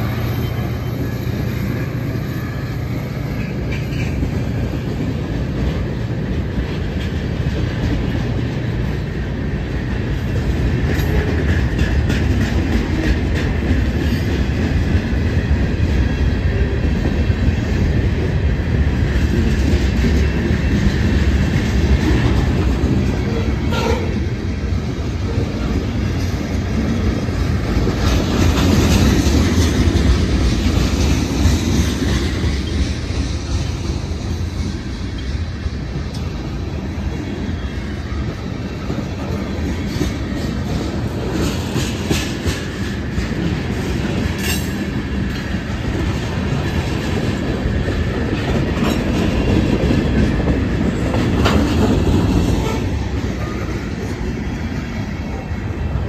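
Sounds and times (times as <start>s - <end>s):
freight train passing: 0.0s - 56.0s.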